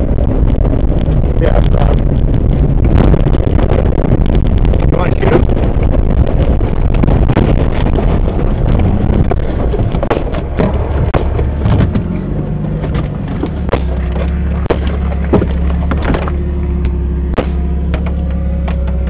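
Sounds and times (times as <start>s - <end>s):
car engine rumbling and idling: 0.0s - 19.0s
wind noise: 0.0s - 19.0s.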